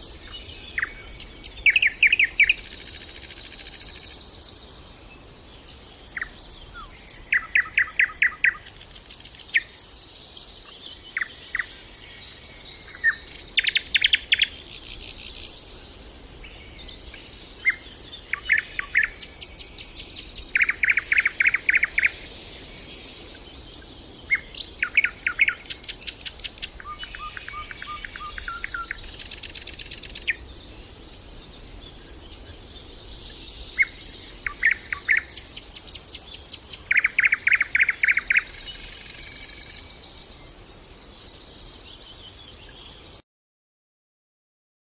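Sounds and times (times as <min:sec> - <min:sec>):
nightingale singing: 0:00.0 - 0:43.2.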